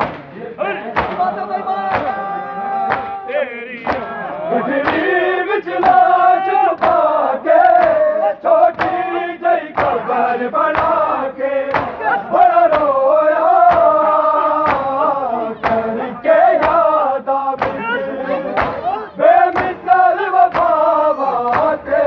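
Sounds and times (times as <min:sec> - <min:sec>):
crowd of men chanting: 0:00.0 - 0:22.0
person reciting: 0:00.0 - 0:22.0.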